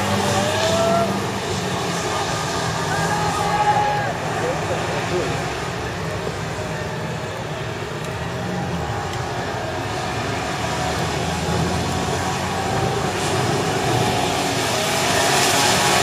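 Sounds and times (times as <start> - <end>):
tyres hissing on wet road: 0.0 - 16.0.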